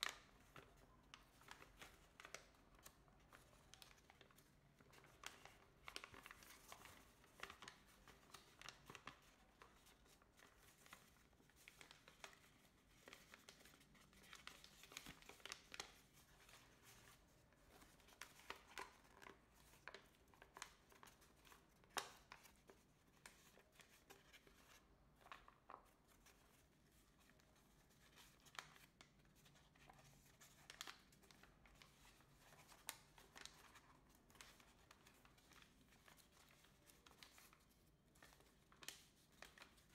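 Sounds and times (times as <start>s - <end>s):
paper crease crackles: 0.0s - 39.9s
paper crinkling and rustling: 0.0s - 39.9s.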